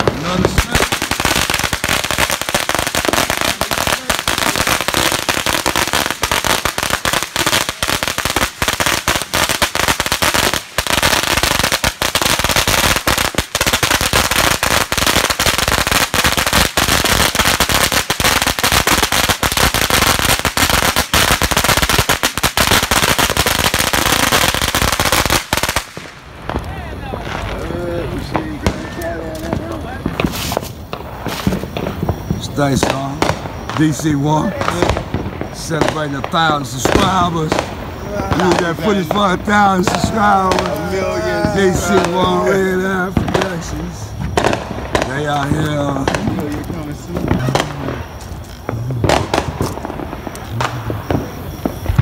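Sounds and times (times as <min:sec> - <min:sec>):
firecrackers cracking: 0:00.0 - 0:52.0.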